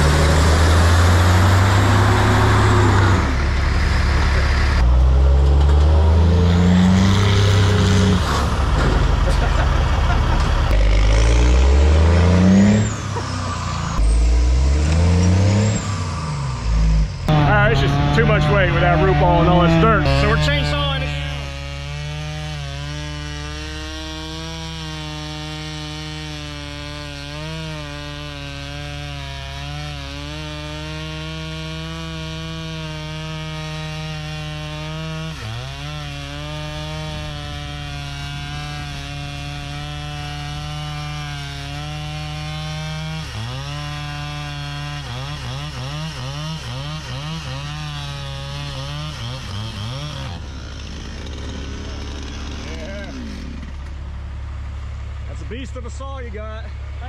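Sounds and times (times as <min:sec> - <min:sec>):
chainsaw cutting wood: 0:00.0 - 0:54.1.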